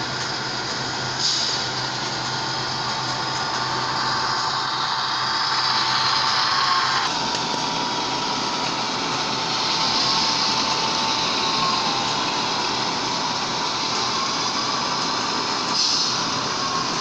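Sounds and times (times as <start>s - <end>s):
model train running: 0.0s - 17.0s
thin steady whine: 0.0s - 17.0s.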